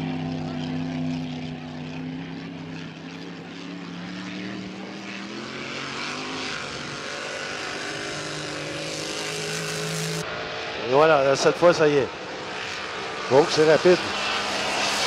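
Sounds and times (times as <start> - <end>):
racing boat engine: 0.0 - 15.0.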